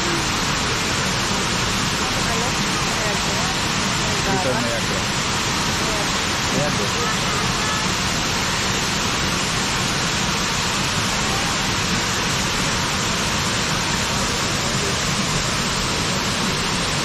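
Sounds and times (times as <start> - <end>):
waterfall roar: 0.0 - 17.0.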